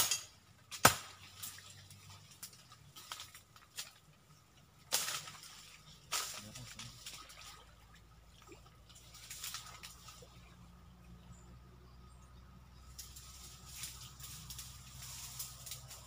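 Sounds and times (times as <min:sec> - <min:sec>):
splashing in pond water: 0:00.0 - 0:11.3, 0:12.5 - 0:16.0.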